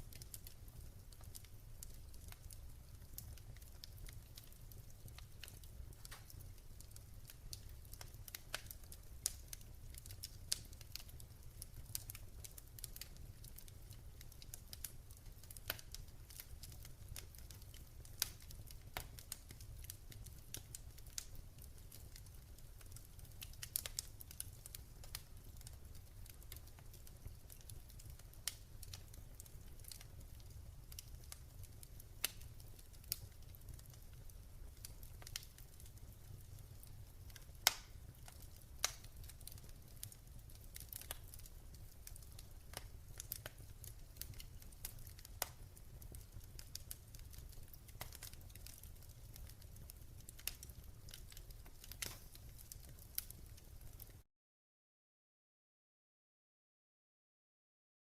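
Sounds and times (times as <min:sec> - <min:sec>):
fire crackling: 0:00.0 - 0:54.2.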